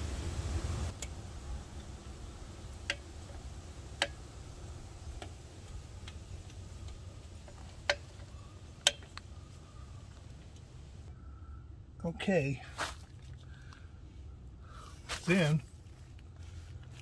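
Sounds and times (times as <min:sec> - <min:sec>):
faint low rumble: 0:00.0 - 0:17.0.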